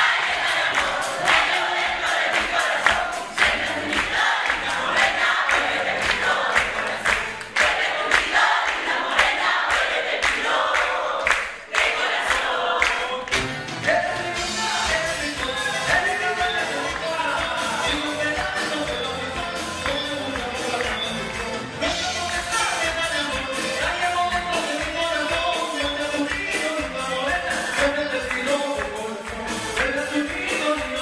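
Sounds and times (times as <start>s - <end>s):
group of voices singing: 0.0s - 31.0s.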